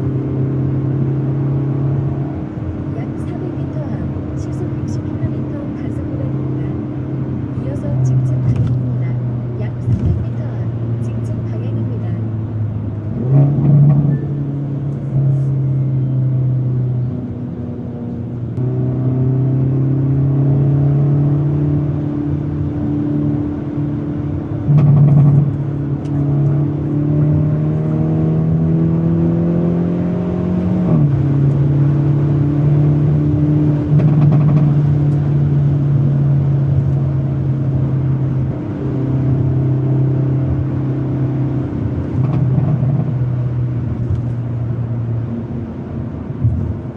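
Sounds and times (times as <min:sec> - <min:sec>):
car engine and exhaust droning: 0:00.0 - 0:46.9.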